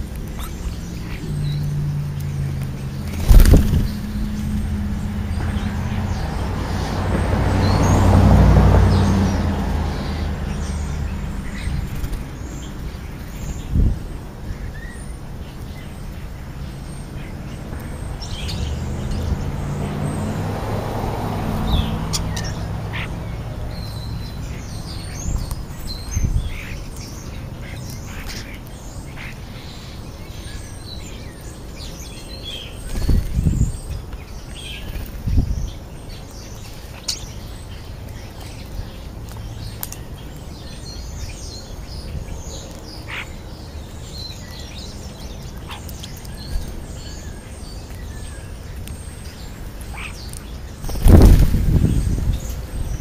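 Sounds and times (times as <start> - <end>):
starlings chirping: 0.0 - 53.0
traffic passing: 0.0 - 53.0.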